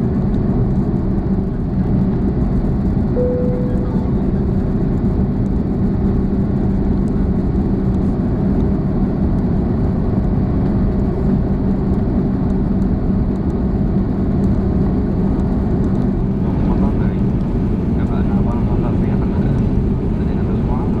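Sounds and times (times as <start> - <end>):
jet engine and air rumble: 0.0 - 21.0.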